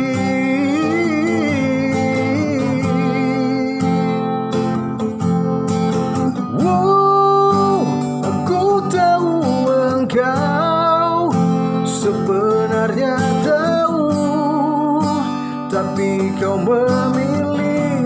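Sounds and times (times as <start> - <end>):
man singing: 0.0 - 5.0, 6.4 - 18.0
acoustic guitar: 0.0 - 18.0.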